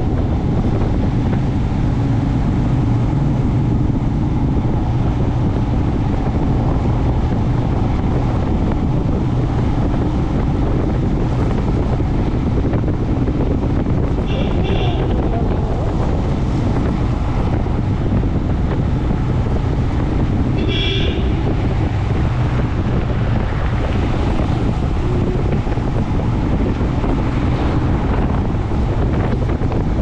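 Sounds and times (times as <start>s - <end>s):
motorcycle engine hum: 0.0s - 30.0s
wind noise on microphone: 0.0s - 30.0s.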